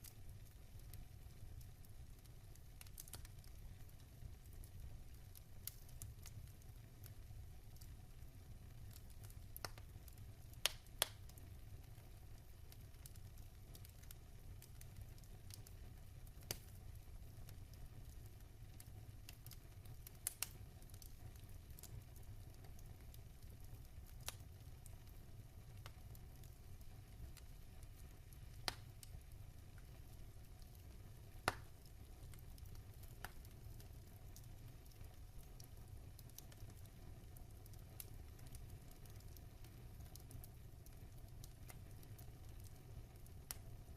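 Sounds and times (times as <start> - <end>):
fire crackling pops: 0.0 - 43.9
wood fire rumbling and hissing: 0.0 - 43.9.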